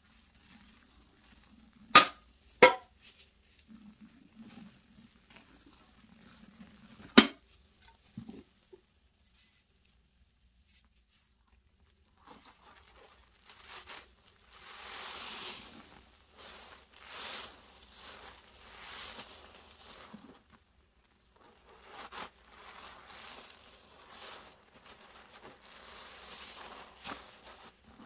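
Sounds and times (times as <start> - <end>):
sponge squishing wet paste: 0.0 - 28.0.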